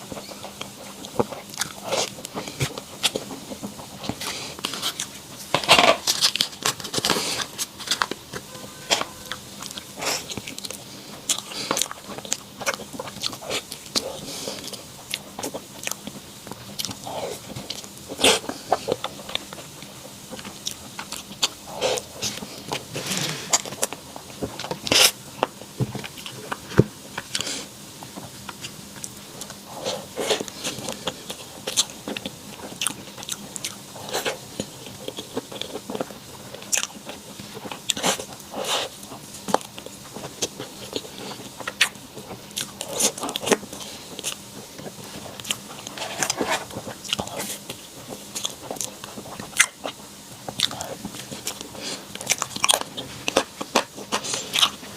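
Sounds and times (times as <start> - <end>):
person crunching and chewing dessert: 0.0 - 54.9.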